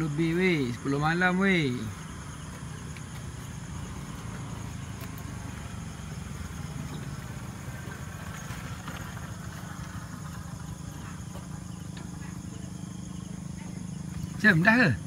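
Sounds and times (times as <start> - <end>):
continuous low hum: 0.0 - 15.0
night insects chirring: 0.0 - 15.0.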